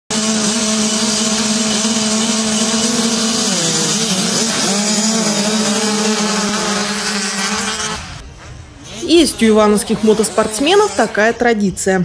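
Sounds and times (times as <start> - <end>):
motocross bikes revving: 0.1 - 8.2, 8.8 - 11.5.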